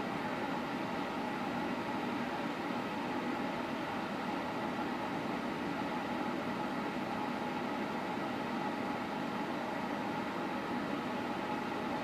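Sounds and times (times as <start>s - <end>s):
electric space heater humming: 0.0s - 12.0s.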